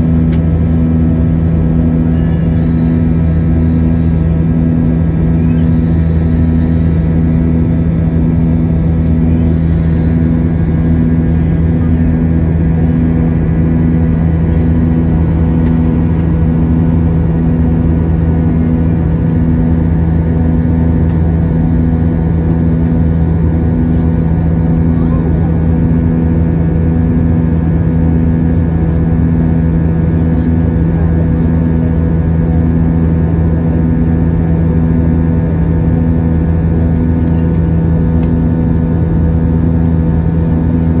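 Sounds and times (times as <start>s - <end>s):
jet engines droning in cabin: 0.0s - 41.0s
pulsing low hum: 0.0s - 41.0s.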